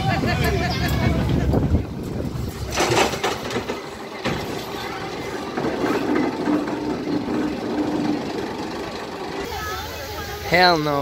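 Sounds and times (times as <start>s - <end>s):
roller coaster car rumbling: 0.0s - 11.0s.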